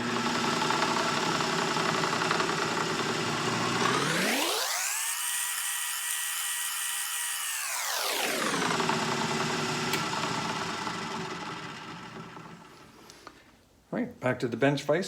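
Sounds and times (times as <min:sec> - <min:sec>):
drill press motor whining: 0:00.0 - 0:12.9.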